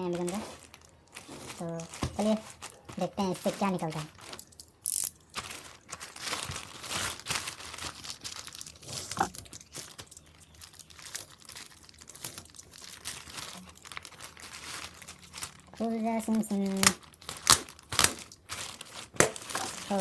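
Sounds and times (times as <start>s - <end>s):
packaging crinkling and ripping: 0.0s - 20.0s.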